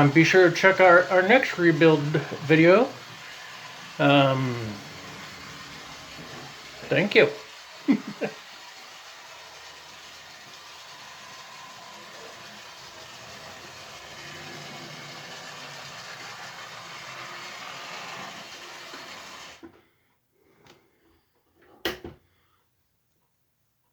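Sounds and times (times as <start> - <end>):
model train motor whirring: 0.0 - 19.6.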